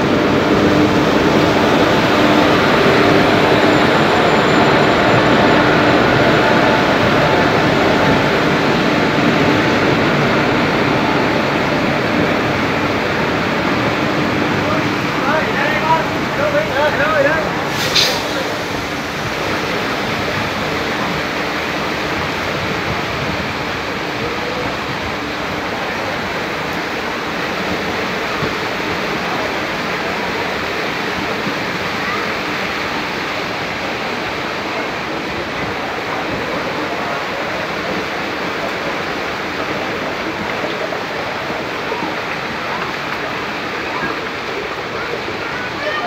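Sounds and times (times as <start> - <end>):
train wheels splashing through water: 0.0 - 46.0.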